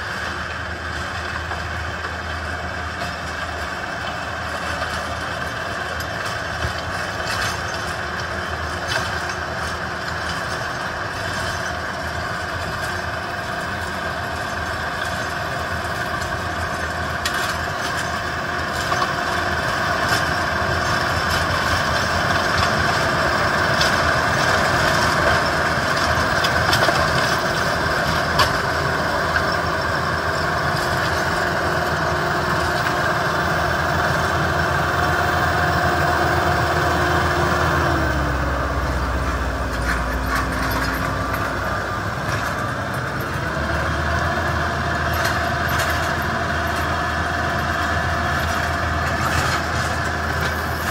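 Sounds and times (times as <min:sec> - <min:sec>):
rotary tiller in soil: 0:00.0 - 0:50.9
tractor diesel engine running: 0:00.0 - 0:50.9.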